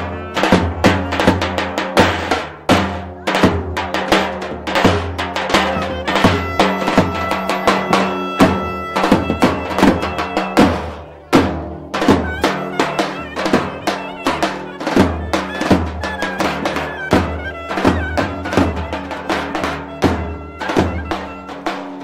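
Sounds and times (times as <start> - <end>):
drum beating steadily: 0.0 - 22.0
reedy wind instrument melody: 0.0 - 22.0.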